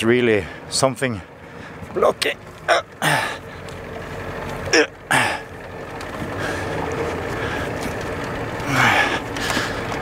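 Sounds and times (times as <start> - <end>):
van engine running: 0.0 - 10.0.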